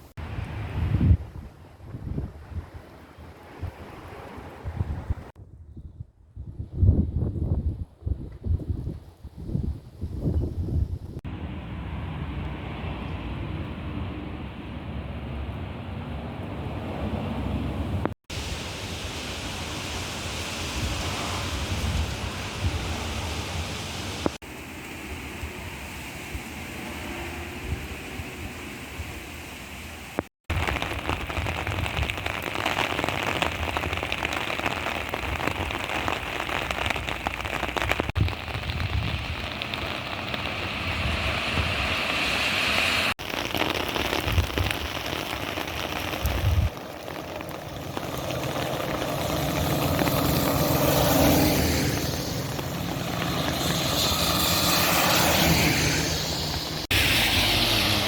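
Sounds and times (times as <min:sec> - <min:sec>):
rain on hard surfaces: 0:00.0 - 0:05.3, 0:11.2 - 0:14.5, 0:17.4 - 0:58.0
vehicles swishing on wet pavement: 0:00.0 - 0:05.4, 0:11.2 - 0:58.0.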